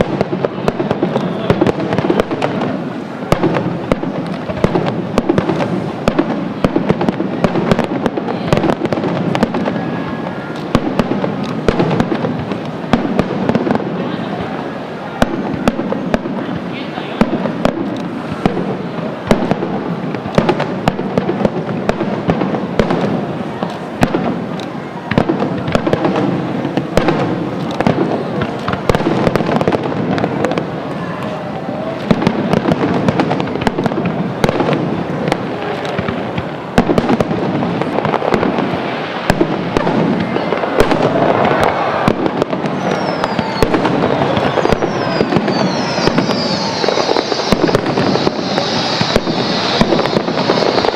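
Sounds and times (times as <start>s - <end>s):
fireworks bangs and crackling: 0.0s - 50.9s
fireworks whistling: 0.0s - 50.9s.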